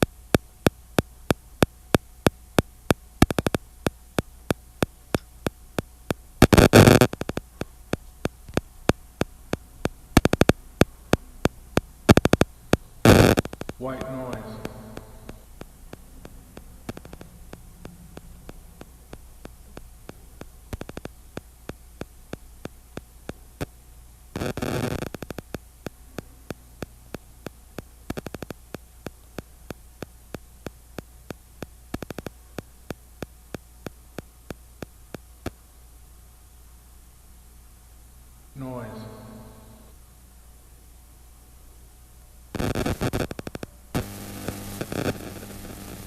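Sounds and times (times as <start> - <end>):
sharp crackling clicks: 0.0 - 35.7, 42.5 - 46.0
low electrical hum: 0.0 - 46.0.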